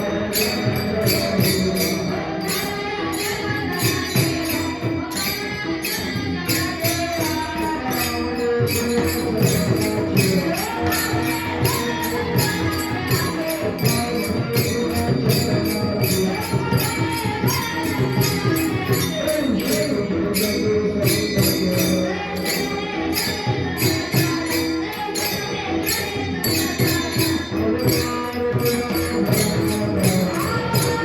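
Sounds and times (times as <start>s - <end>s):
drumming: 0.0s - 22.0s, 22.6s - 31.0s
hand cymbals clashing: 0.0s - 31.0s
person singing: 0.0s - 31.0s.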